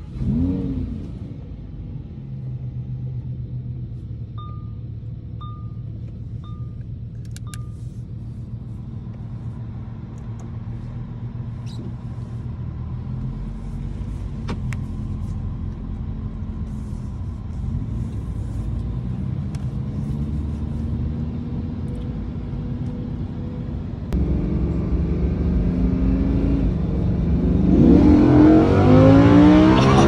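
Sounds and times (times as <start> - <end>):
engine running and revving: 0.0 - 3.6, 8.7 - 30.0.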